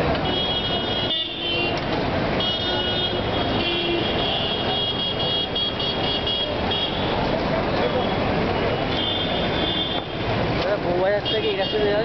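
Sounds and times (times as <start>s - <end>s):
passing engines and tyres: 0.0s - 12.0s
car horns honking: 0.1s - 7.2s, 7.8s - 10.4s, 11.2s - 12.0s.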